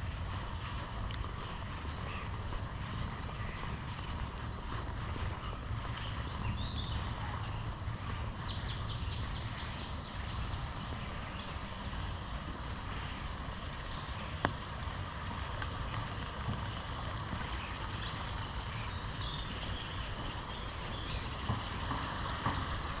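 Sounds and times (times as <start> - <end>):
rain falling: 0.0 - 23.0
wind rumbling on microphone: 0.0 - 23.0.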